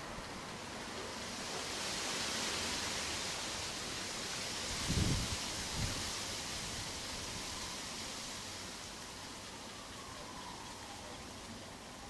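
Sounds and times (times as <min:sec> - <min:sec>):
outdoor ambient hiss: 0:00.0 - 0:12.0.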